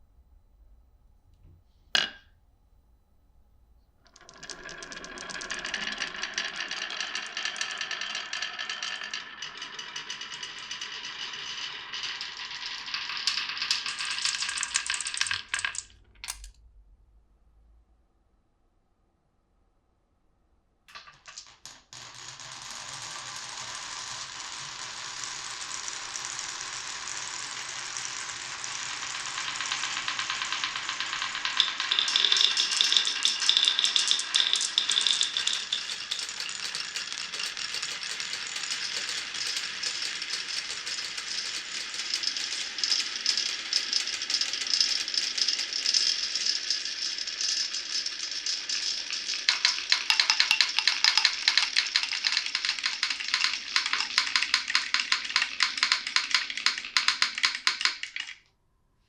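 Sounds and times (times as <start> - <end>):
marbles rattling down wooden run: 4.1 - 16.5, 20.9 - 58.5.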